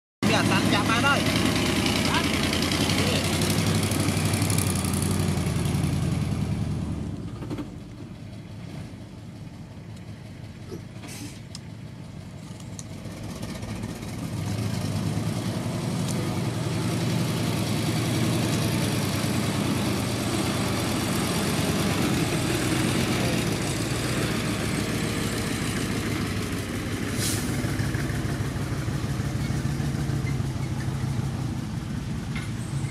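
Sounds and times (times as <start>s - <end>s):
diesel truck engine running: 0.2s - 32.9s.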